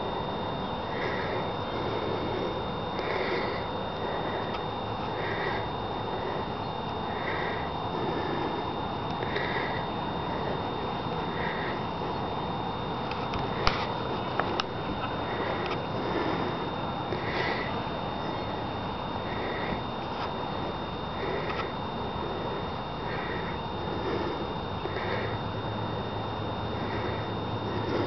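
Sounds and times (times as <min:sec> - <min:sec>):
faint pulsing sound: 0:00.0 - 0:28.0
outdoor noise: 0:00.0 - 0:28.0.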